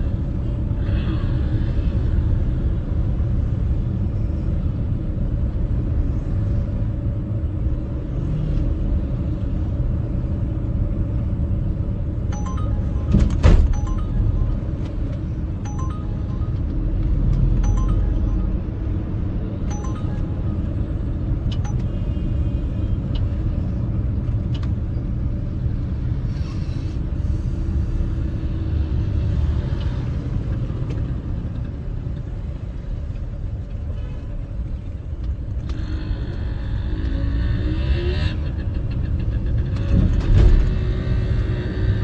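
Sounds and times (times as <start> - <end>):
car engine rumble: 0.0 - 42.0.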